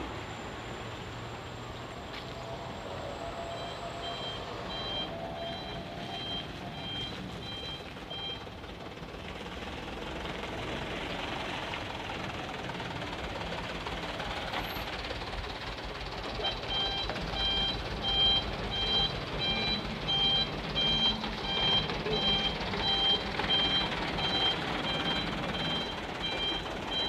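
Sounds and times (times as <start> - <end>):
truck reversing beeper: 0.0 - 9.0, 12.2 - 27.0
truck engine running: 0.0 - 27.0.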